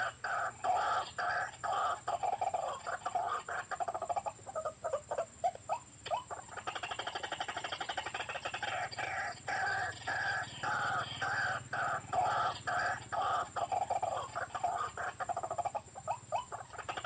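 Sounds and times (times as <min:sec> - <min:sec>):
electronic bird call croaking: 0:00.0 - 0:04.7, 0:05.7 - 0:17.0.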